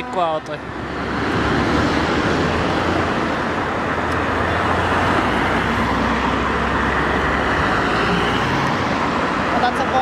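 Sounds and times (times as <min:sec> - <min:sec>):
road traffic passing: 0:00.0 - 0:10.0.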